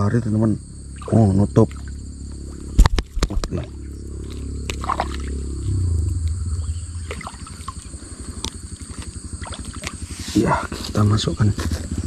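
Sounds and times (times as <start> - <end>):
high insect buzz: 0.0 - 12.0
low motor drone pulsing: 0.0 - 12.0.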